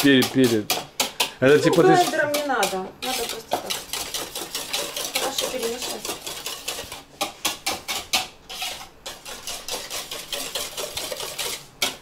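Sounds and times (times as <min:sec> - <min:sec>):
whisk clicking and scraping bowl: 0:00.0 - 0:12.0.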